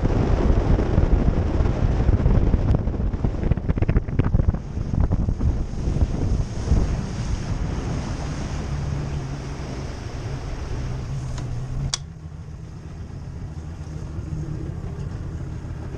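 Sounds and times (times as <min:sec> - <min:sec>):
boat engine running: 0:00.0 - 0:15.9
water rushing: 0:00.0 - 0:15.9
wind buffeting microphone: 0:00.0 - 0:15.9.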